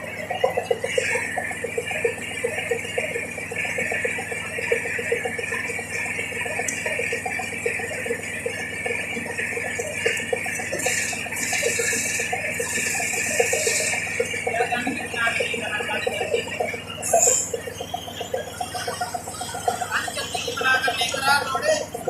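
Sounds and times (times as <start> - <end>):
high whine: 0.0 - 22.0.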